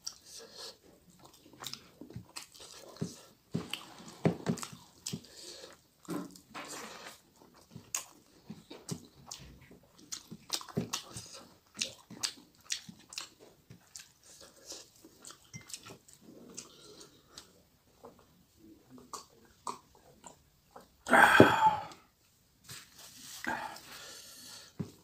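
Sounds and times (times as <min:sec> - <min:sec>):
chewing and lip-smacking: 0:00.0 - 0:21.0.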